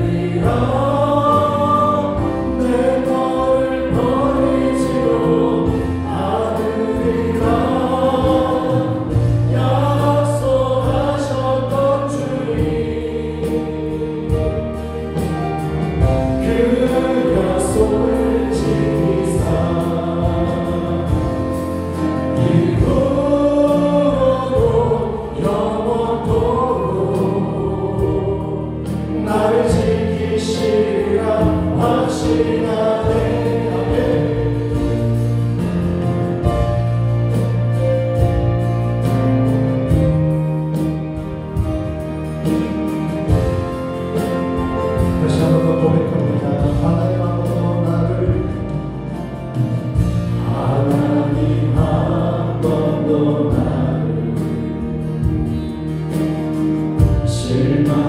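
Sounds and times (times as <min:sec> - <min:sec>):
several voices singing worship song: 0:00.0 - 0:37.6, 0:41.0 - 0:58.0
bass guitar: 0:00.0 - 0:58.0
drums: 0:00.0 - 0:58.0.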